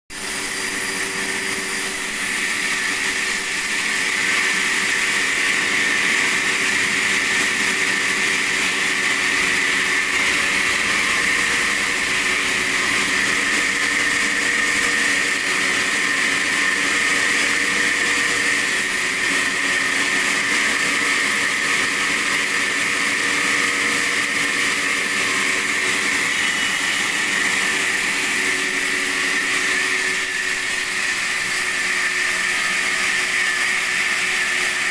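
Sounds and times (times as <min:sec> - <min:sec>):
sawmill saw cutting wood: 0:00.1 - 0:34.9.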